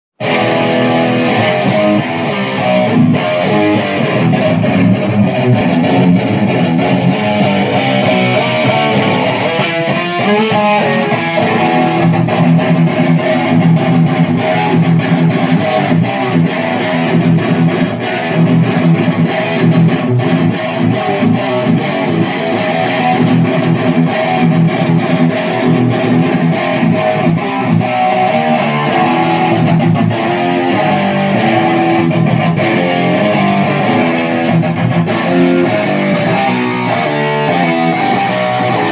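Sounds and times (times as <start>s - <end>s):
distorted electric guitar chords: 0.2s - 38.9s.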